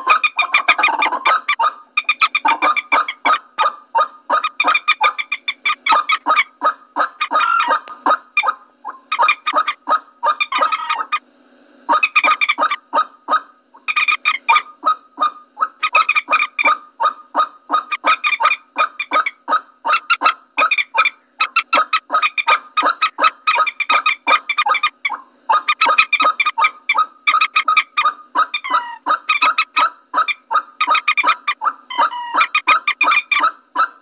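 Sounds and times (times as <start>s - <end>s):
moorhen honking clucks: 0.0s - 11.2s, 11.9s - 34.0s.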